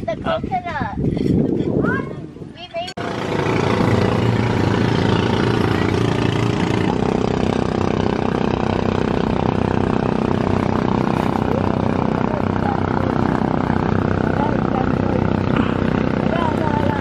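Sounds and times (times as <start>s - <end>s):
engine running steadily: 2.9s - 17.0s.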